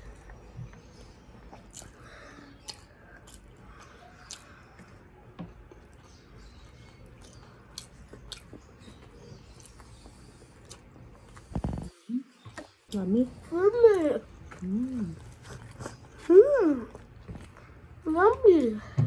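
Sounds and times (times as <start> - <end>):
chewing food: 0.0 - 18.7.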